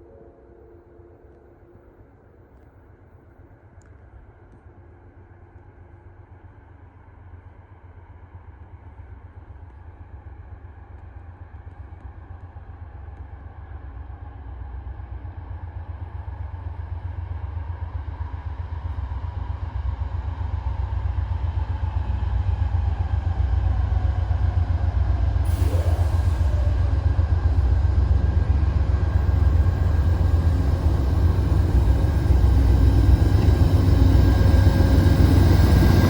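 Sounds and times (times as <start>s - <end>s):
diesel locomotive engine rumble: 5.8s - 36.0s.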